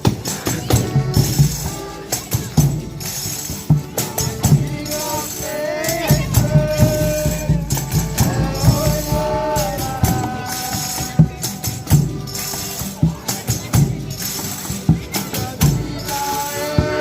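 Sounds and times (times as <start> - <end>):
low drum beat: 0.0 - 17.0
tambourine jingles: 0.0 - 17.0.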